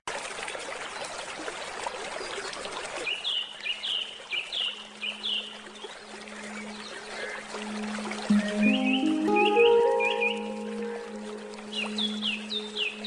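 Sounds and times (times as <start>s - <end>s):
stream trickling: 0.1s - 13.0s.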